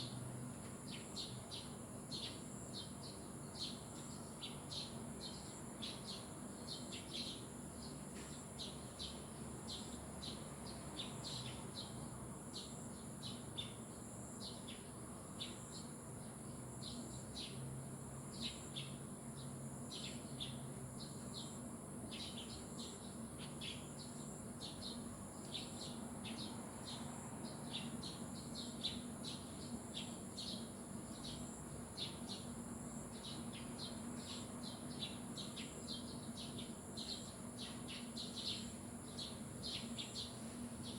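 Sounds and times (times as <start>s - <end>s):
small birds chirping: 0.8s - 17.7s, 18.3s - 40.9s.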